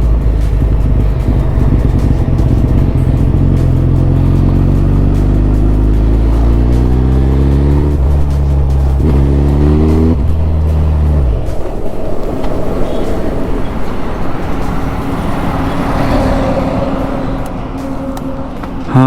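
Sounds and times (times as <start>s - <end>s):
motorcycle engine accelerating: 0.0s - 18.7s.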